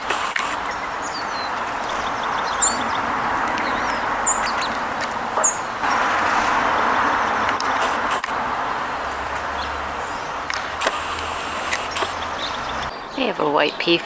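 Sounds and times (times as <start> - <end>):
small birds chirping: 0.0 - 14.0
steady background rush: 0.0 - 14.0.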